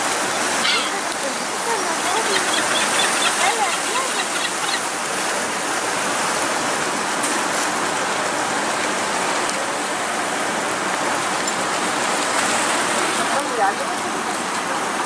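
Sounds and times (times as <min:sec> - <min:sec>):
seawater splashing over rocks: 0:00.0 - 0:15.0.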